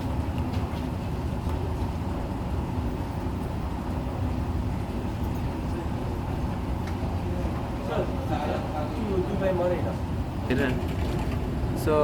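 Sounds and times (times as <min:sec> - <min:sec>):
road traffic drone: 0:00.0 - 0:12.0.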